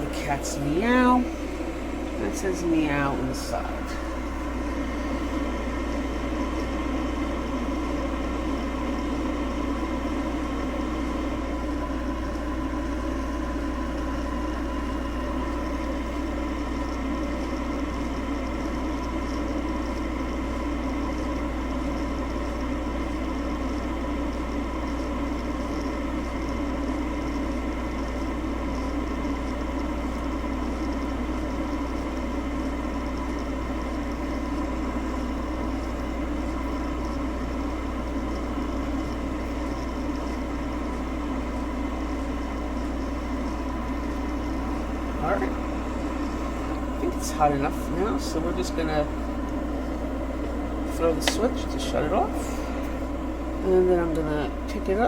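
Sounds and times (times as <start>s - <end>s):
electric kettle heating water: 0.0s - 55.0s.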